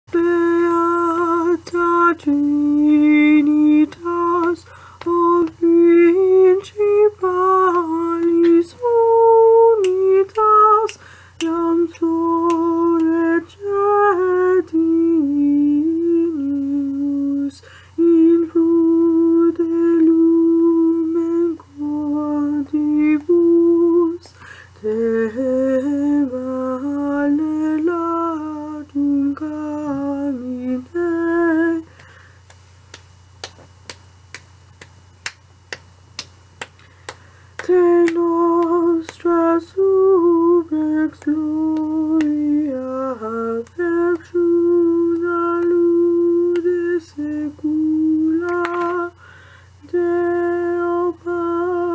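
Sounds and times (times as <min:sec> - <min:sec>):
woman singing a cappella: 0:00.1 - 0:32.5, 0:37.0 - 0:51.9.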